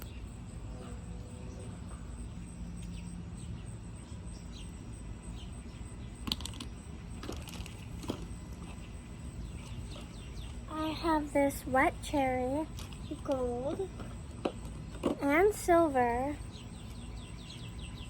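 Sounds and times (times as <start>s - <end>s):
small birds chirping: 0.0s - 18.0s
steady background noise: 0.0s - 18.0s.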